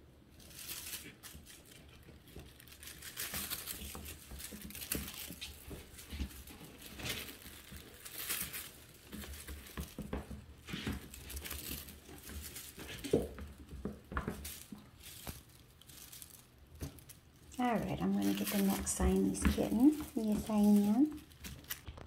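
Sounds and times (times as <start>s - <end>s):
wand toy rustling and crinkling: 0.0s - 22.0s
kitten paws pattering on a rug: 0.4s - 22.0s.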